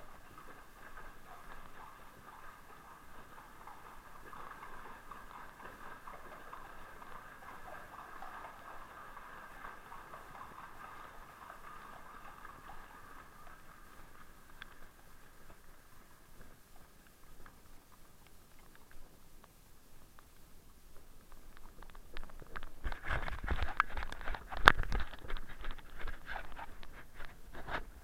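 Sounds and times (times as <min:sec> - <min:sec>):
hooves splashing through water: 0:00.0 - 0:19.2, 0:21.1 - 0:28.0
flowing water rushing: 0:00.0 - 0:28.0.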